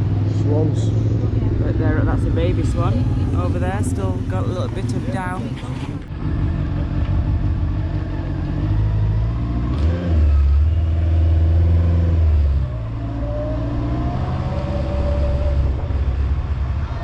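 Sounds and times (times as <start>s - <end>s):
vehicle engine under load: 0.0s - 17.0s.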